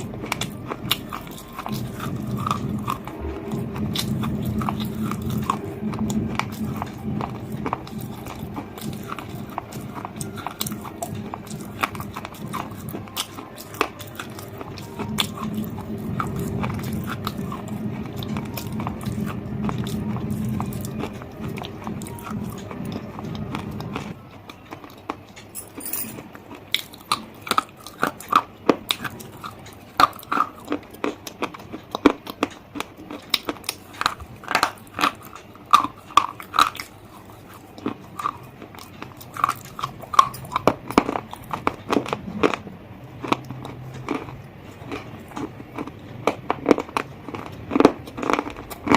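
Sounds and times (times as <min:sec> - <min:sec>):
crunchy chewing: 0:00.0 - 0:48.9
steady low hum: 0:00.0 - 0:48.9.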